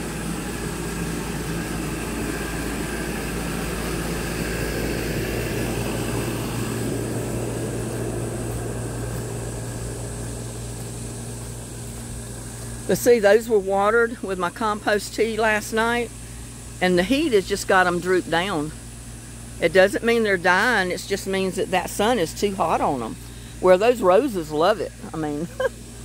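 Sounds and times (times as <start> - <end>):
mechanical drone with low hum: 0.0 - 26.0.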